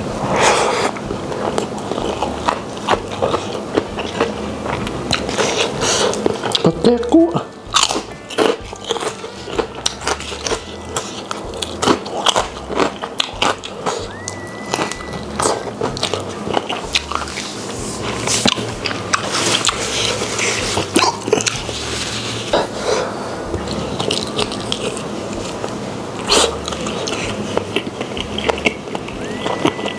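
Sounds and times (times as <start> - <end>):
wet chewing and lip-smacking: 0.7 - 6.8, 7.7 - 21.8, 23.5 - 29.9.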